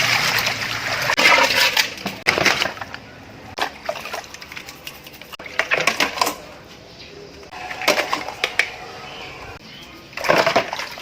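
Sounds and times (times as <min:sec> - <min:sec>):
water splashing: 0:00.0 - 0:06.6, 0:07.5 - 0:11.0.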